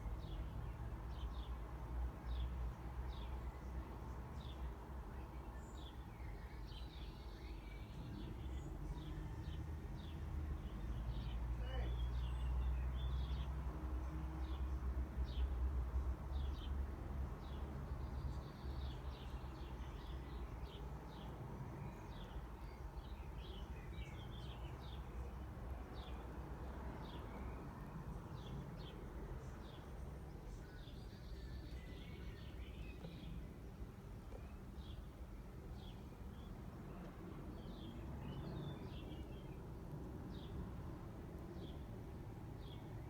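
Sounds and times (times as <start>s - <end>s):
small birds chirping: 2.2s - 13.5s, 17.4s - 43.0s.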